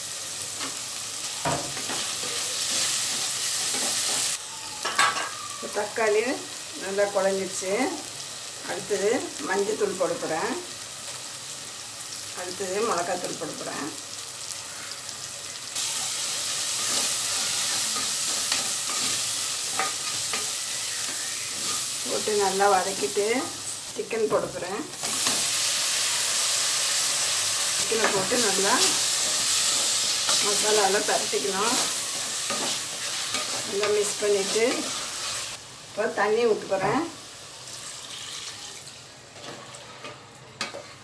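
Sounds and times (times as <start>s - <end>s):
food sizzling in oil: 0.0s - 40.0s.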